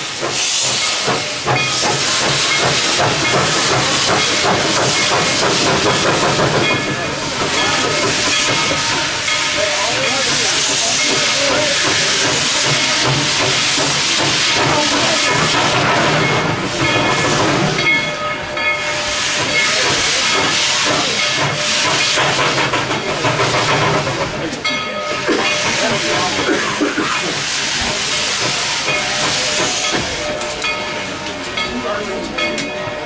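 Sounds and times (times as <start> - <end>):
steam locomotive venting steam: 0.0 - 33.0.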